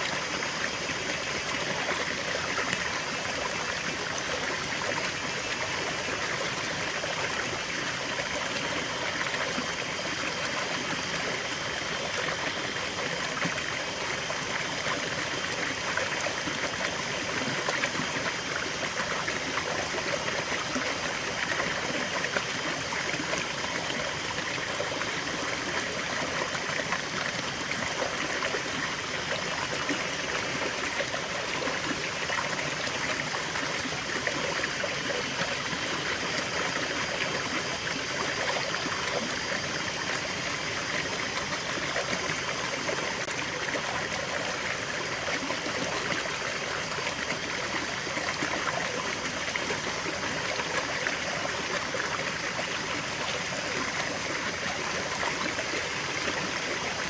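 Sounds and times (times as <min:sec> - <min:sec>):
stream trickling over stones: 0:00.0 - 0:57.0.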